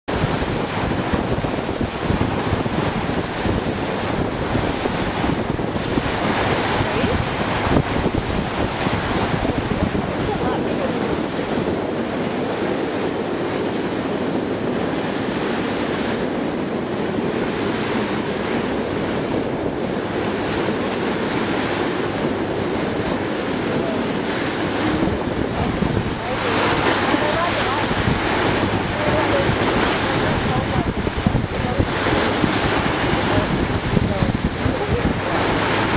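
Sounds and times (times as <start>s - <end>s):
rushing water beside boat: 0.0s - 35.9s
wind buffeting microphone: 0.1s - 35.9s.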